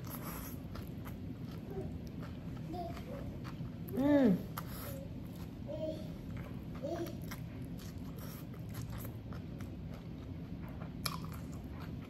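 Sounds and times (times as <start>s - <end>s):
chewing with wet mouth clicks: 0.0s - 5.6s, 6.2s - 12.0s.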